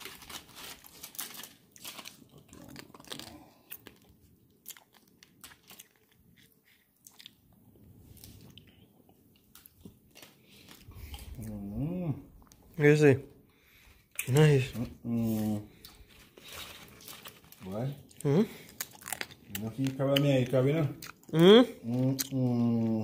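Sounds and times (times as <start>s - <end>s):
person chewing crunchy food: 0.0s - 12.7s, 15.3s - 23.0s.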